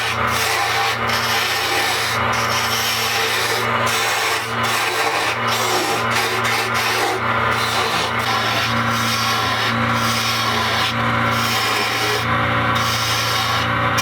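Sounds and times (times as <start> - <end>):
motor hum: 0.0 - 14.0
rasping wood cutting: 0.0 - 14.0.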